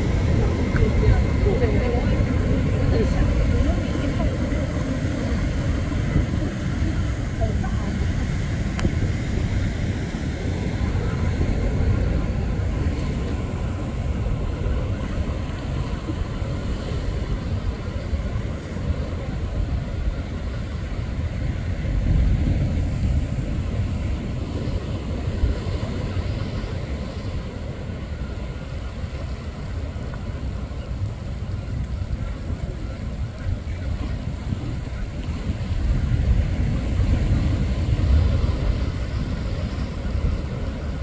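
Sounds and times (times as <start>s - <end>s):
distant jet engine rumble: 0.0s - 41.0s.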